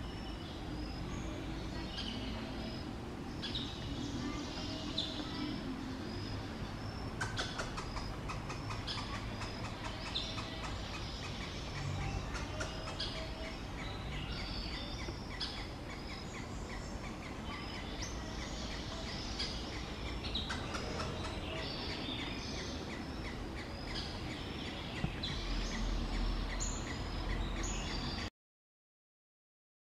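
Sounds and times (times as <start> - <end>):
birds chirping: 0.0 - 28.3.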